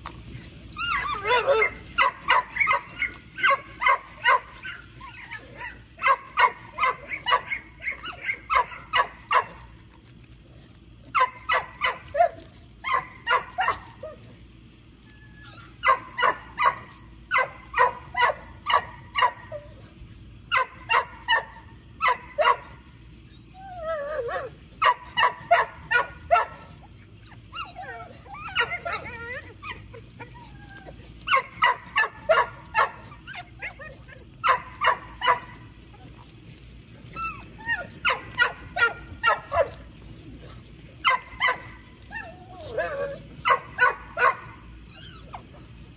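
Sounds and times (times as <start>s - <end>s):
dog whining: 0.4s - 18.4s, 23.2s - 45.9s.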